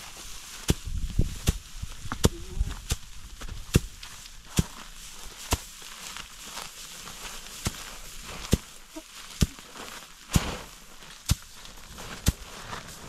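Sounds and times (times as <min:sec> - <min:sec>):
fodder rustling: 0:00.0 - 0:13.0.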